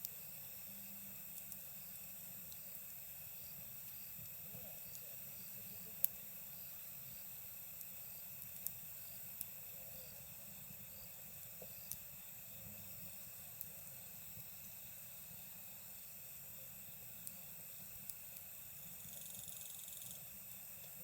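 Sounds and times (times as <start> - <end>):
night insects chirring: 0.0 - 21.0
campfire crackling and popping: 1.2 - 21.0.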